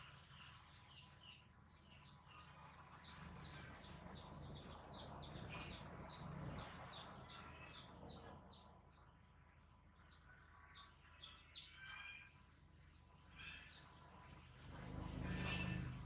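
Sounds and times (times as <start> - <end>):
birds chirping: 0.0 - 16.0
low background hum: 0.0 - 16.0.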